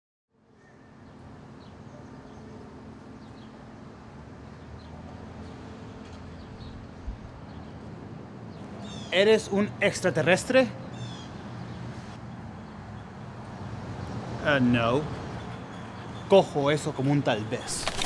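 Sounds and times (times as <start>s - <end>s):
distant traffic hum: 0.4s - 18.0s.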